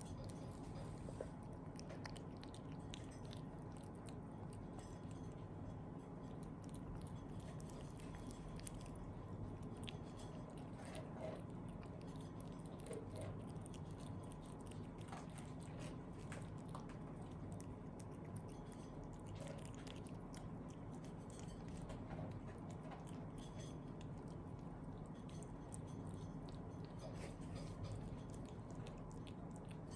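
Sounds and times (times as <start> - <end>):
pet chewing food: 0.0 - 29.9
steady low hum: 0.0 - 29.9.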